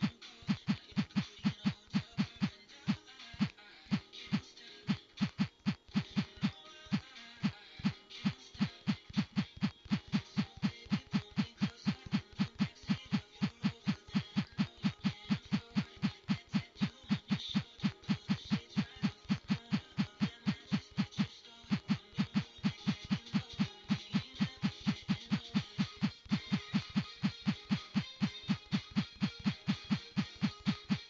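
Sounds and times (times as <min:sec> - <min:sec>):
rapid low thumping with clicks: 0:00.5 - 0:02.6, 0:07.8 - 0:31.0.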